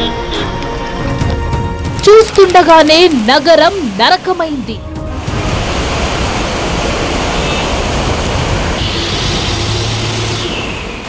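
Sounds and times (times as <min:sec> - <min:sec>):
rushing floodwater: 0:00.0 - 0:11.0.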